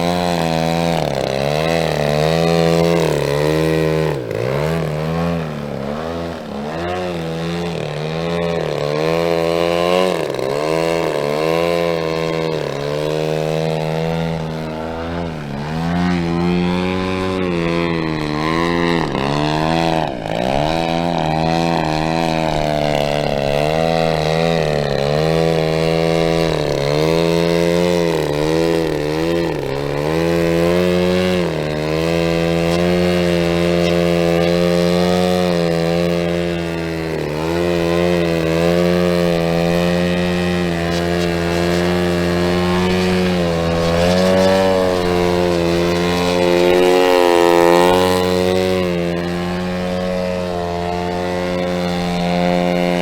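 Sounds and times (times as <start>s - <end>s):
model plane engine swooping: 0.0s - 53.0s.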